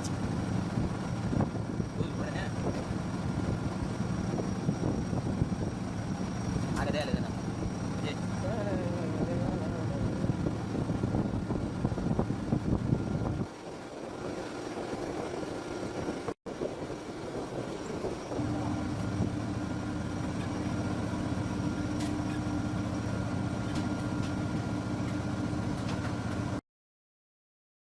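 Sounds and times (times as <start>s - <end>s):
ceiling fan motor humming: 0.0s - 26.6s.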